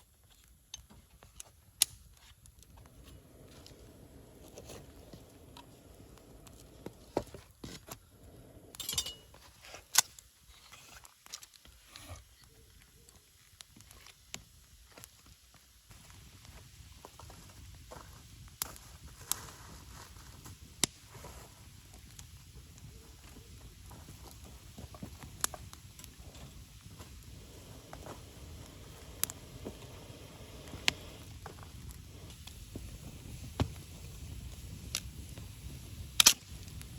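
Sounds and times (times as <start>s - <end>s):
campfire crackling: 0.0s - 36.9s
fire hissing: 1.8s - 10.5s, 11.6s - 36.9s.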